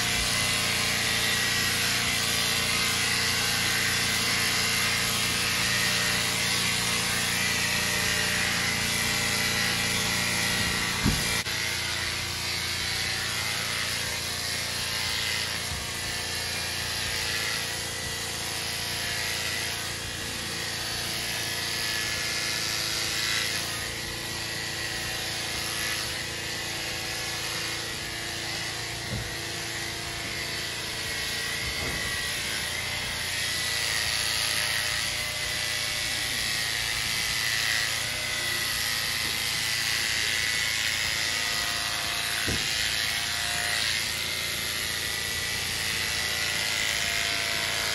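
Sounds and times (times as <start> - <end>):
electric clippers humming: 0.0 - 47.9.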